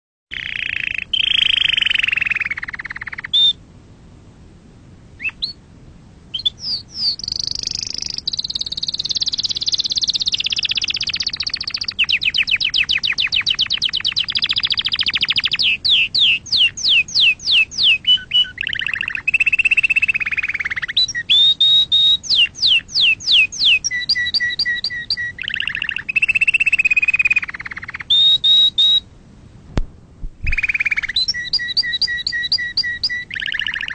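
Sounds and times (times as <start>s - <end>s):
canary singing: 0.3s - 3.6s, 5.2s - 5.6s, 6.3s - 29.1s, 30.4s - 33.9s.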